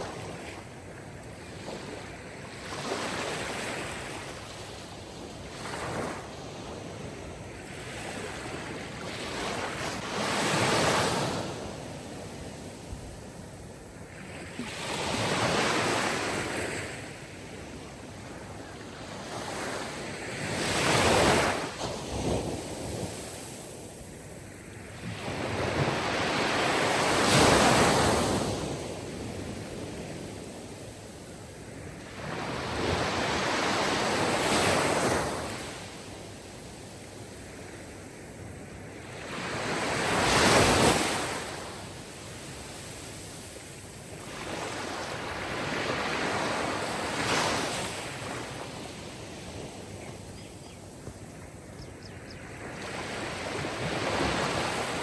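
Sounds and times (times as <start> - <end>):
sea waves surging and washing back: 0.0 - 55.0.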